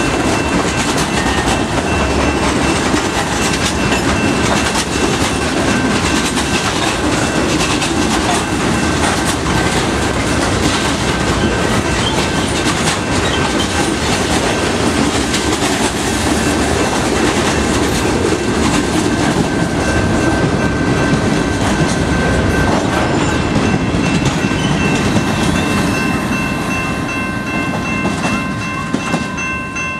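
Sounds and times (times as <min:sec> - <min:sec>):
freight train wheels clattering: 0:00.0 - 0:29.8.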